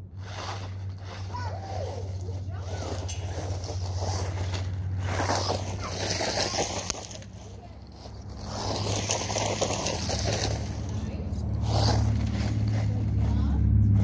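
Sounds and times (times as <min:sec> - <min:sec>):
tyres crunching on gravel: 0:00.0 - 0:14.0
toy truck motor running: 0:00.2 - 0:13.5.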